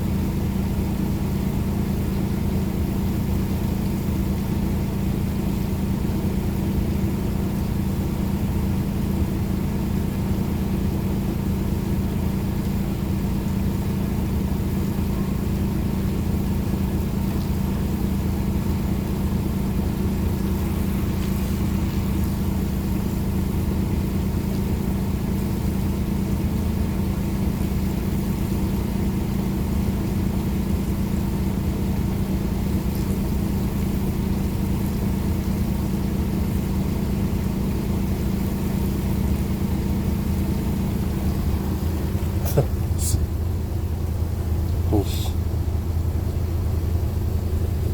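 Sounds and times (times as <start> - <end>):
engine droning steadily: 0.0 - 47.9.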